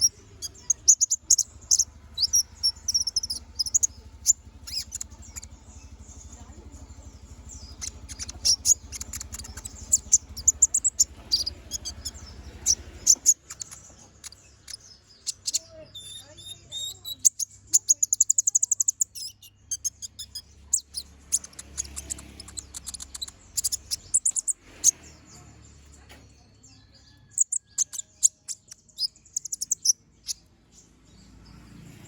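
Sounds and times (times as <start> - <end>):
steady low hum: 0.0 - 26.3
sunbird chirping and trilling: 0.0 - 32.0.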